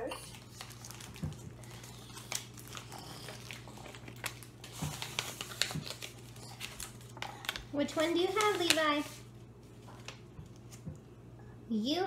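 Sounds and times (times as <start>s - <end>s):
low steady hum: 0.0s - 12.0s
plastic packaging crinkling: 0.2s - 10.8s.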